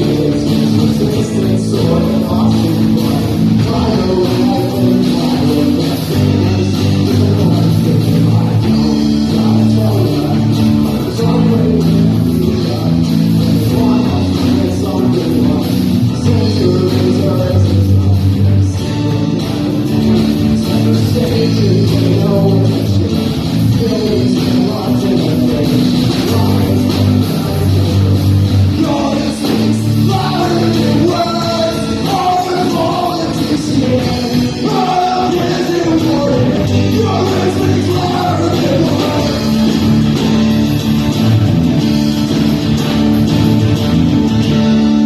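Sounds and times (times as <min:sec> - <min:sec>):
person singing: 0:00.0 - 0:41.0
folk-punk band playing: 0:00.0 - 0:45.0.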